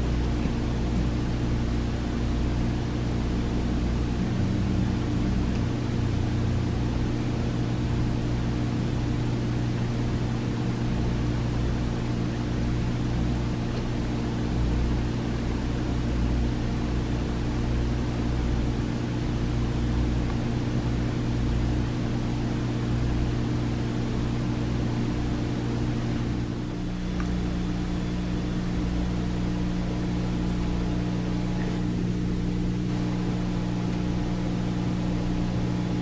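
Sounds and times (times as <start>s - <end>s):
aquarium filter hum and hiss: 0.0s - 36.0s.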